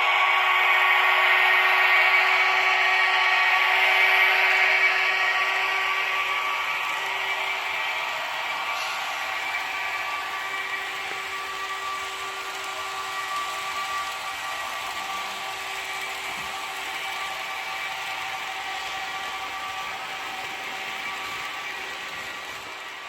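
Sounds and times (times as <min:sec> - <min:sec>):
electric locomotive whine and hum: 0:00.0 - 0:23.0.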